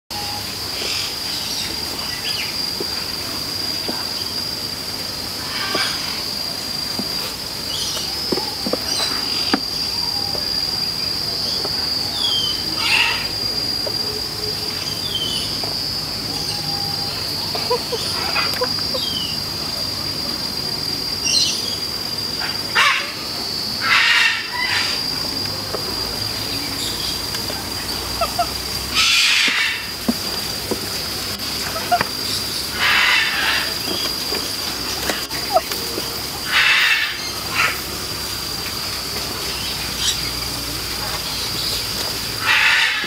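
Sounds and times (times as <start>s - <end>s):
high-pitched insect drone: 0.1s - 43.0s.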